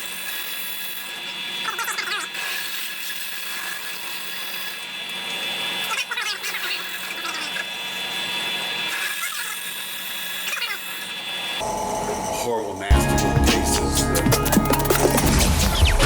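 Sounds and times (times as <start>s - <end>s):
electric drill whining: 0.0s - 16.0s.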